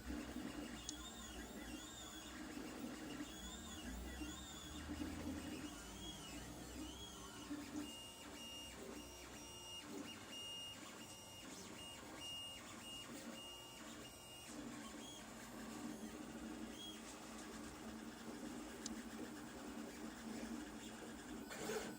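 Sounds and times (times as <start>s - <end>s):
printer stepper motors whirring: 0.0s - 21.9s.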